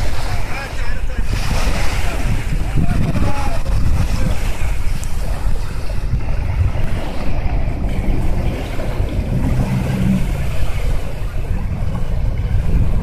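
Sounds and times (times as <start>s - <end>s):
wind rumble on microphone: 0.0s - 13.0s
outboard motor humming: 1.6s - 13.0s.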